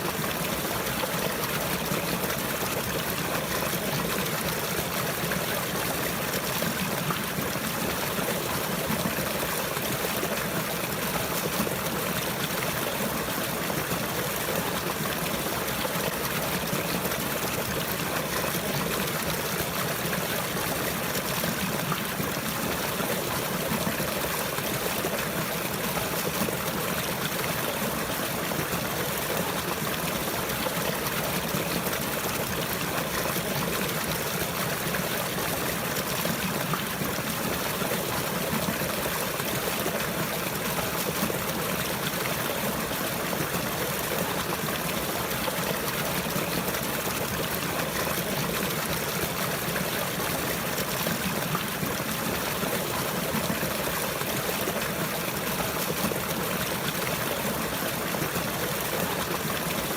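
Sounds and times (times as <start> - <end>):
running water flowing: 0.0 - 59.9.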